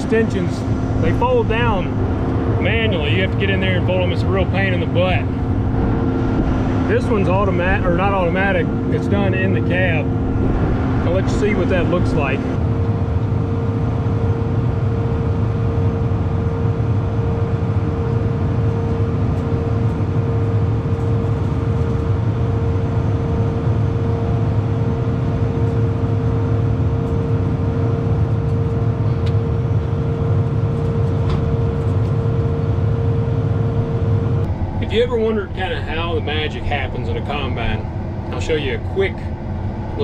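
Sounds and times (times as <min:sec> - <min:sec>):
combine engine drone: 0:00.0 - 0:40.0
steady machine whine: 0:00.0 - 0:40.0.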